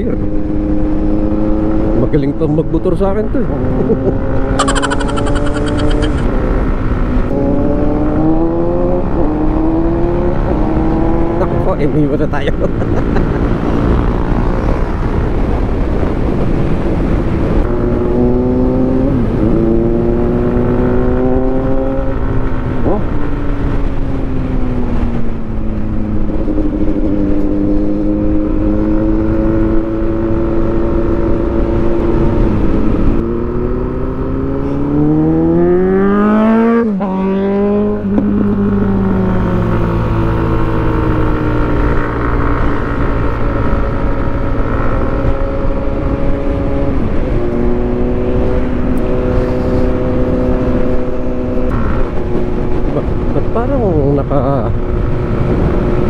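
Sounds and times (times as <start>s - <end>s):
motorcycle engine accelerating: 0.0s - 2.2s, 3.3s - 56.0s.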